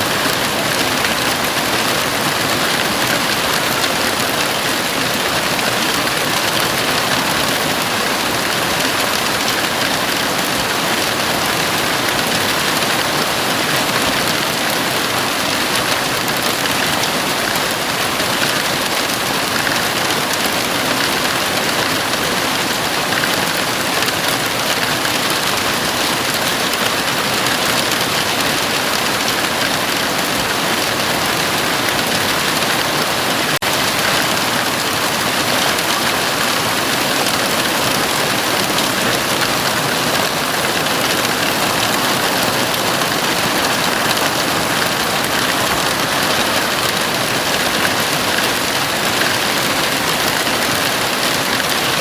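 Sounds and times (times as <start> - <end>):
heavy rain on a roof: 0.0 - 52.0.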